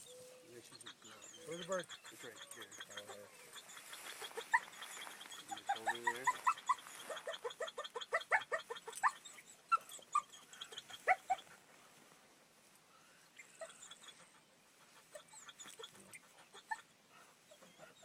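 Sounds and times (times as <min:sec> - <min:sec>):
puppy whining: 0:00.0 - 0:11.6, 0:13.4 - 0:18.0.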